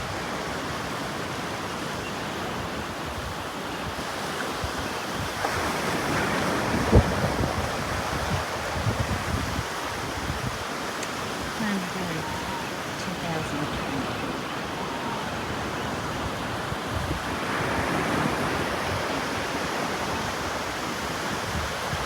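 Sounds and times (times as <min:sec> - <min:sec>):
wind on microphone: 0:02.7 - 0:22.0.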